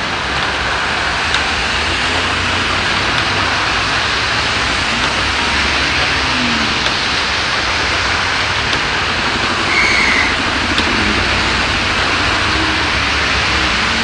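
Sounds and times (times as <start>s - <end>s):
heavy rain on street: 0.0s - 14.0s
car passing on wet road: 0.1s - 14.0s.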